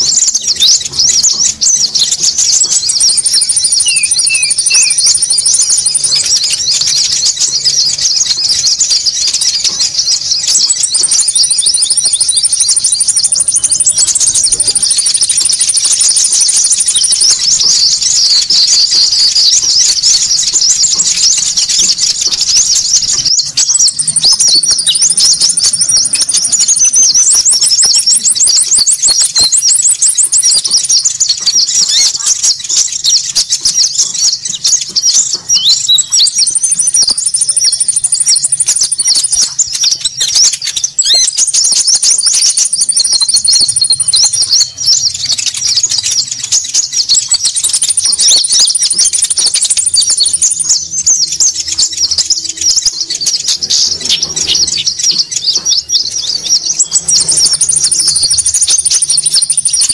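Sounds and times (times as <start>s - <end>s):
songbirds chirping chorus: 0.0s - 59.9s
very high bird trill: 0.0s - 59.9s.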